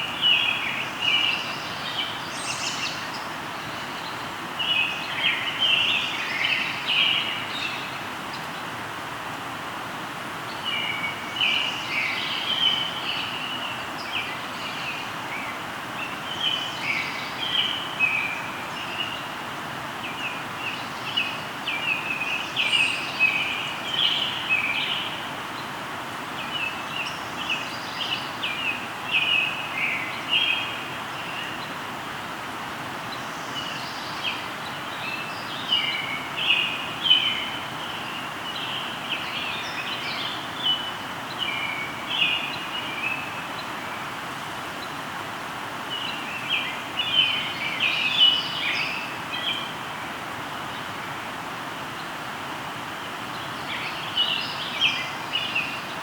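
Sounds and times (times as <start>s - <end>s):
river flowing: 0.0s - 56.0s
songbirds chirping: 0.0s - 56.0s.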